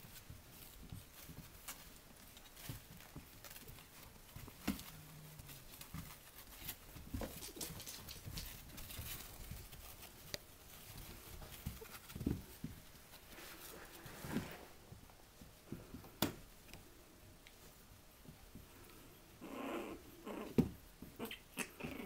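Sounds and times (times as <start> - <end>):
puppy paw taps and scuffs: 0.0 - 18.7.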